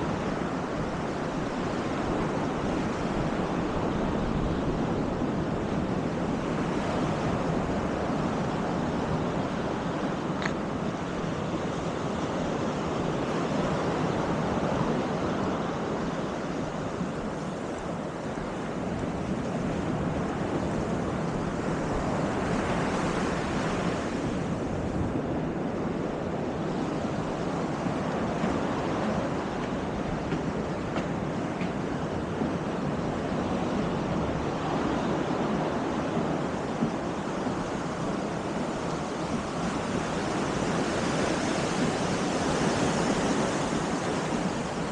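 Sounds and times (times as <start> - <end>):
surf washing onto beach: 0.0 - 44.9
wind on microphone: 0.0 - 44.9.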